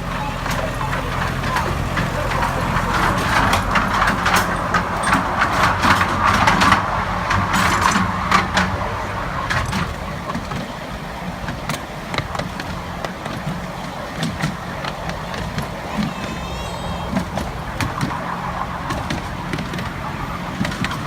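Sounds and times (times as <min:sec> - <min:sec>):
miniature train engine hum: 0:00.0 - 0:21.0
noisy rattle: 0:00.0 - 0:21.0.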